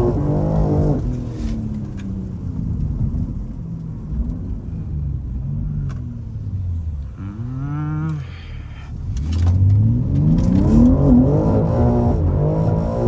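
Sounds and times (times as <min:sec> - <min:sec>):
car engine revving: 0:00.0 - 0:03.6, 0:05.3 - 0:13.0.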